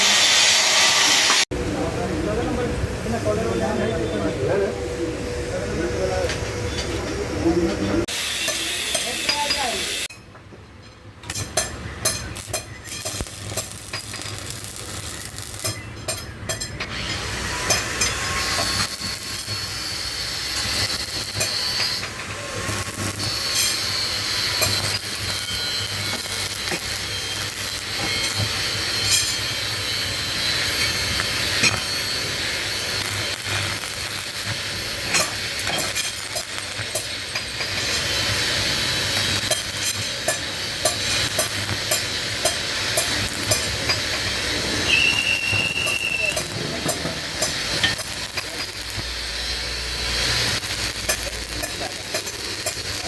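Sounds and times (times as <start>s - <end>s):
hissing scraping metalwork noise: 0.0s - 53.0s.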